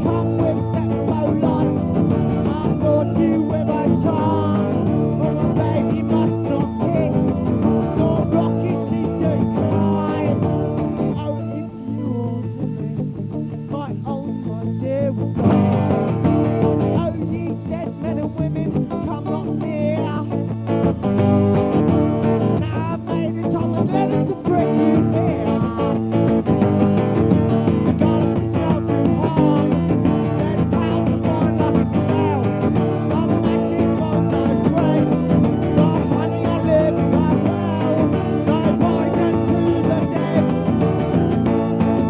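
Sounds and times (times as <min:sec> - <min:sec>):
rock song with guitar and keyboard: 0:00.0 - 0:42.0.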